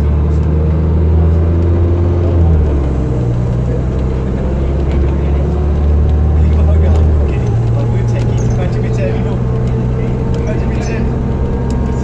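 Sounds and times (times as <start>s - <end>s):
bus diesel engine under load: 0.0s - 12.0s.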